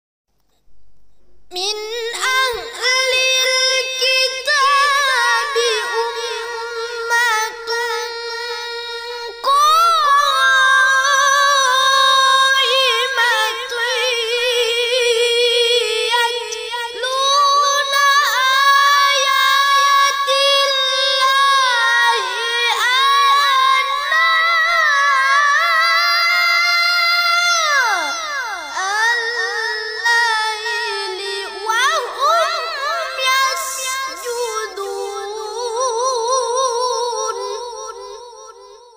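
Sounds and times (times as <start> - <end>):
boy reciting melodically: 1.4 - 38.9.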